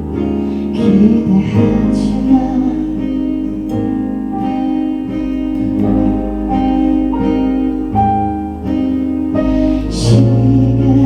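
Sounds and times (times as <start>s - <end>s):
bass line: 0.0s - 11.0s
guitar: 0.0s - 11.0s.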